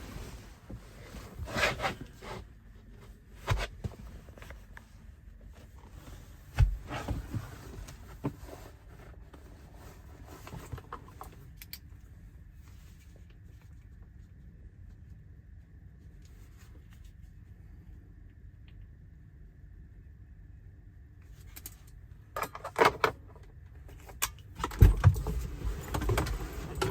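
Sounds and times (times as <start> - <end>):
rustling and handling noise: 0.0 - 18.3, 21.3 - 26.9.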